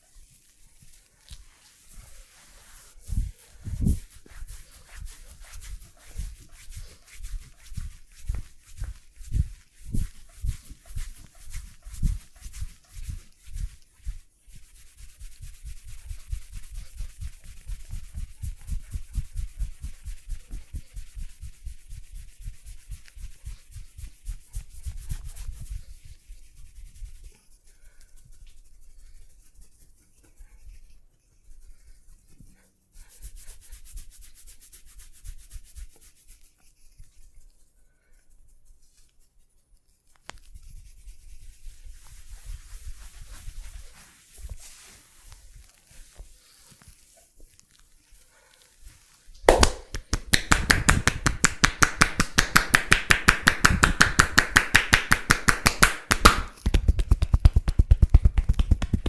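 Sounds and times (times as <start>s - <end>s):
hands rubbing and patting body: 0.0s - 59.0s.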